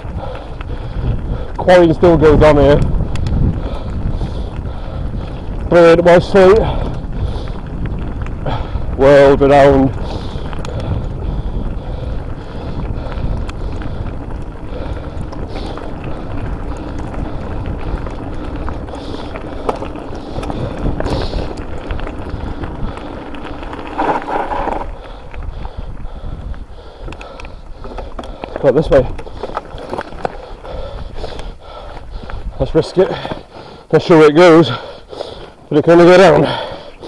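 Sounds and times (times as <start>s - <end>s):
bike rattling: 0.0s - 37.0s
bike tyres on loose slate: 0.0s - 37.0s
wind buffeting microphone: 0.0s - 37.0s.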